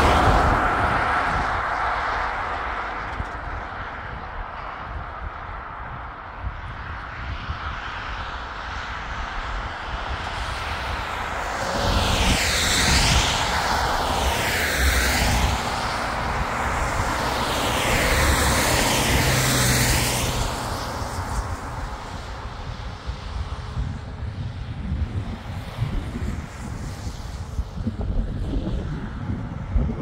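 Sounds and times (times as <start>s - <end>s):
aircraft flying overhead: 0.0s - 30.0s.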